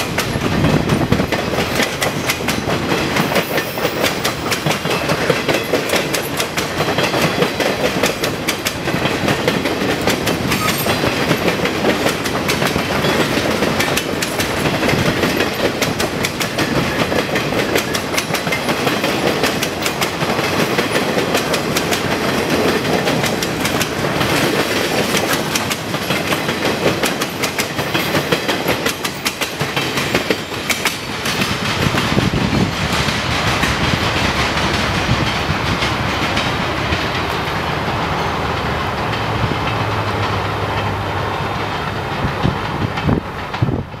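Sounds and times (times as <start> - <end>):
train rumble: 0.0 - 44.0
train wheels clicking over rail joints: 0.0 - 44.0.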